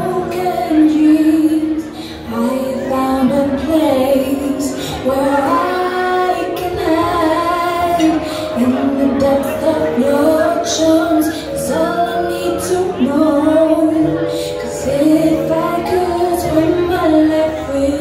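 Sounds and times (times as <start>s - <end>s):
woman singing long held notes: 0.0s - 18.0s.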